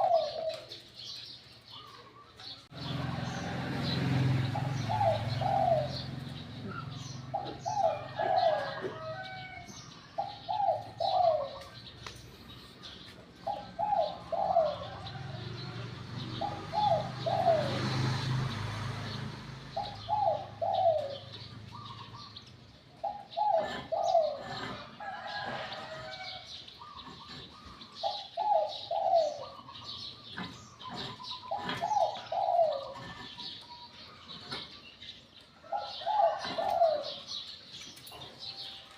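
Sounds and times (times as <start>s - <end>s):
dove cooing: 0.0s - 34.8s, 35.6s - 38.9s
small birds chirping: 0.0s - 38.9s.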